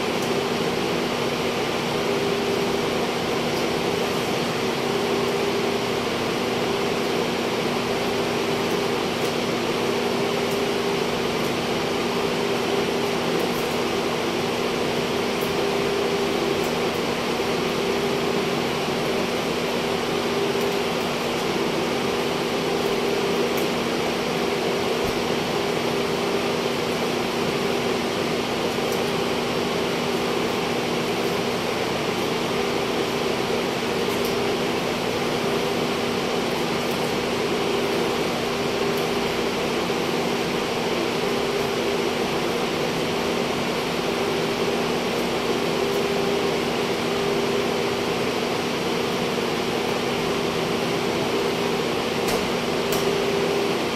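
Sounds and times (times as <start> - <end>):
fans whirring: 0.0 - 53.9.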